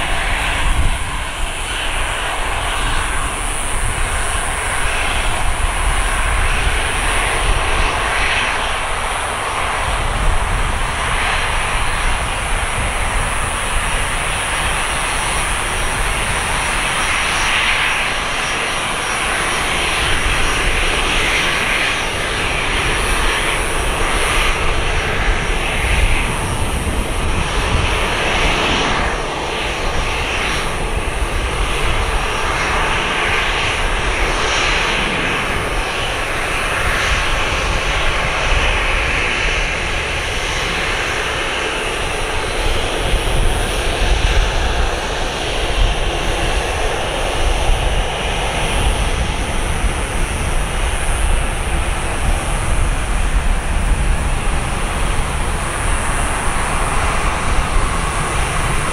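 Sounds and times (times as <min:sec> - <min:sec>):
jet engines roaring: 0:00.0 - 0:58.9.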